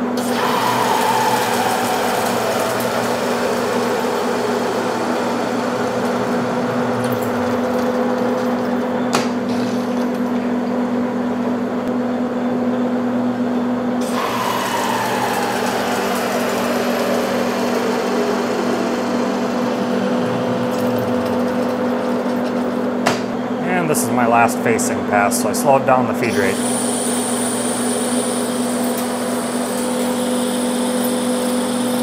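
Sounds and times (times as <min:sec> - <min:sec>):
lathe gear and motor hum: 0:00.0 - 0:32.0
falling whine: 0:00.2 - 0:10.5, 0:14.0 - 0:30.9.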